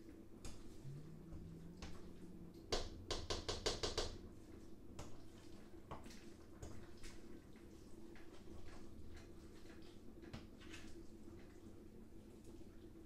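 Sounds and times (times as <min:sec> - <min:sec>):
faint steady hum: 0:00.0 - 0:13.0
spatula stirring thick soup: 0:00.4 - 0:11.6.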